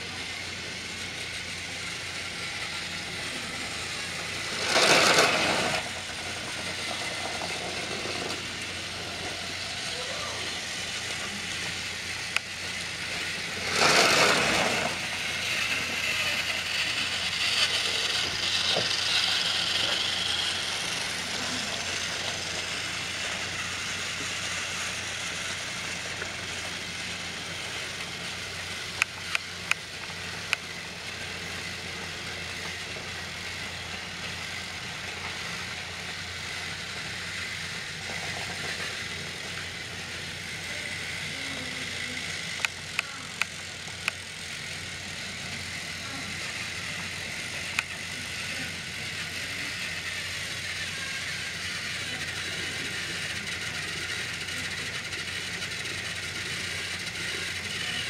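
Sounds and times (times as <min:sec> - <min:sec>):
toy train motors whirring: 0:00.0 - 0:58.0.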